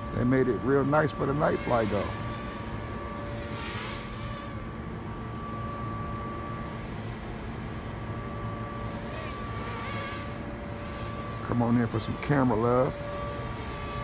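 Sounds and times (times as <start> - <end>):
low steady hum: 0.0 - 14.0
toy drone propeller whine: 0.0 - 14.0.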